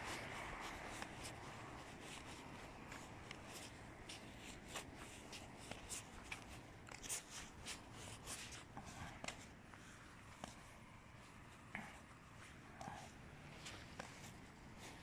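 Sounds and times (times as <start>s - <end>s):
faint background noise: 0.0s - 15.0s
footsteps on pavement: 0.0s - 15.0s.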